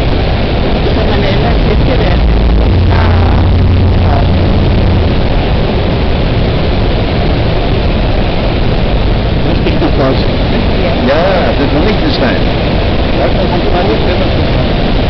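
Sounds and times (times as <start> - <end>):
deep hum: 0.0 - 15.0
loud steady rushing noise: 0.0 - 15.0
speedboat engine running: 0.0 - 15.0.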